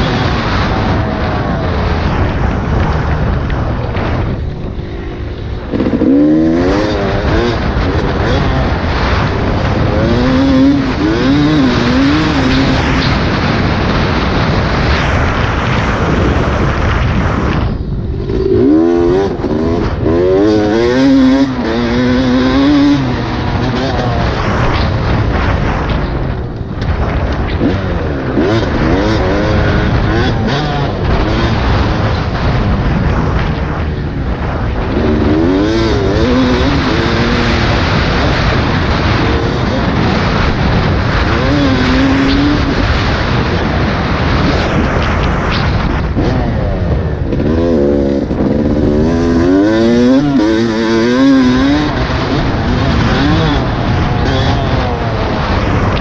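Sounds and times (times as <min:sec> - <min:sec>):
dirt bike engine revving: 0:00.0 - 0:56.0
rush of noise: 0:00.0 - 0:56.0.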